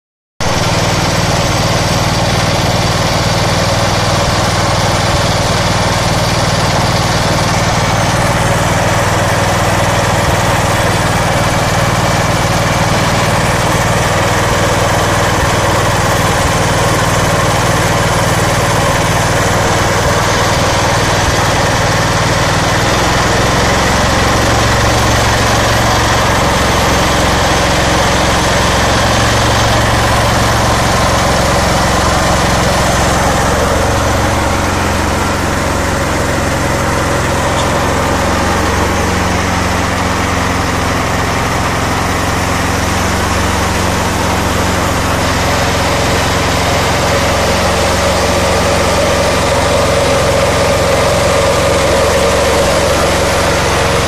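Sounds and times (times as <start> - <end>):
single-cylinder engine running: 0.4 - 54.0.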